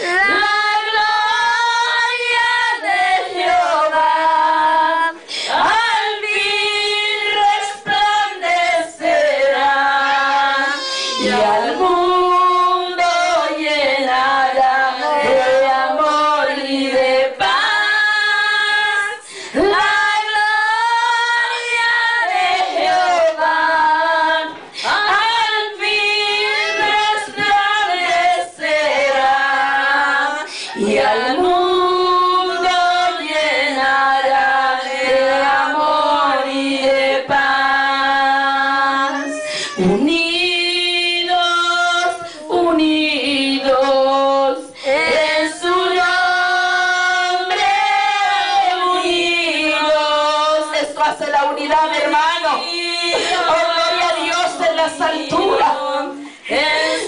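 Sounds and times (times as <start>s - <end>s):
women singing worship song: 0.0s - 57.0s.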